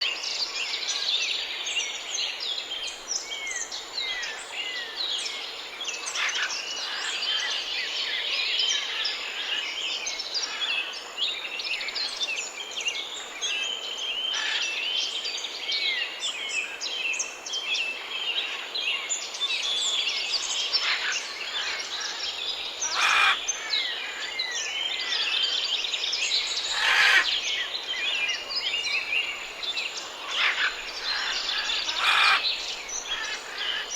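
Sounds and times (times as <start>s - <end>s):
small birds chirping and singing: 0.0s - 33.9s.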